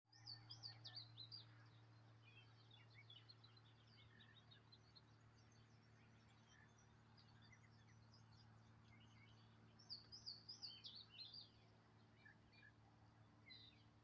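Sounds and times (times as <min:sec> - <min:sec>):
songbirds chirping: 0:00.1 - 0:14.0.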